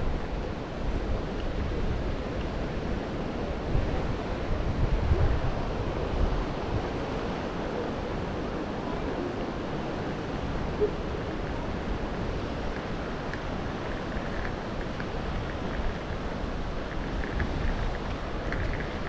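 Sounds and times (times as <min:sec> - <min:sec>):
surf on a rocky shore: 0:00.0 - 0:19.0
wind buffeting microphone: 0:00.0 - 0:19.0.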